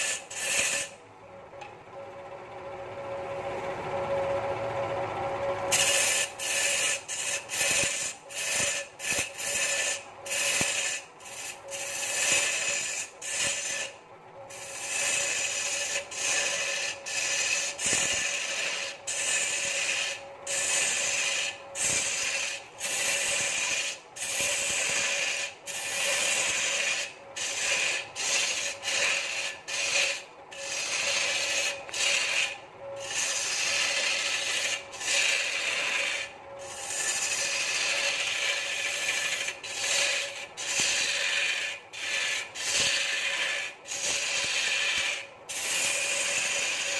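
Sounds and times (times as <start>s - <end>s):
lathe tool scraping wood: 0.0s - 1.0s, 5.7s - 46.9s
wood lathe humming: 0.0s - 46.9s.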